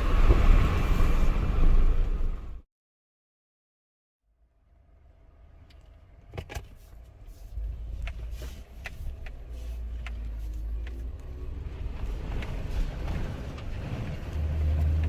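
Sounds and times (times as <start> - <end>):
engine and road rumble: 0.0 - 2.6, 4.5 - 15.0.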